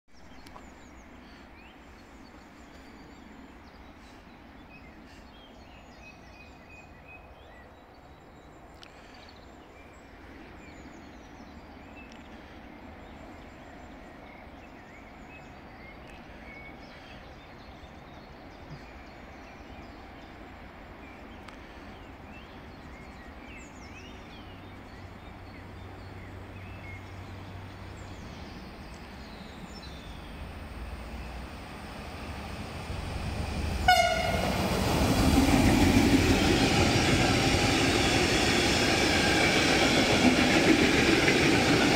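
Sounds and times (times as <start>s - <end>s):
outdoor background noise: 0.1s - 41.9s
distant locomotive engine hum: 0.2s - 41.9s.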